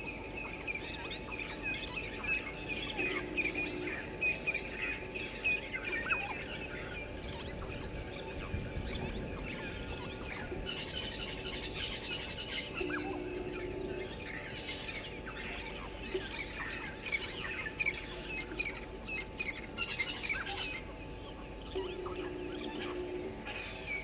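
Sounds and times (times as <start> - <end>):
faint steady hum: 0.0 - 24.0
small birds chirping: 0.0 - 24.0.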